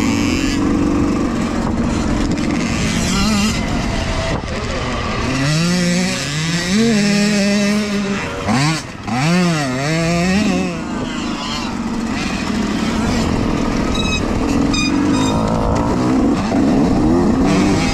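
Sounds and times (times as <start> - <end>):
dirt bike engines racing: 0.0 - 17.9.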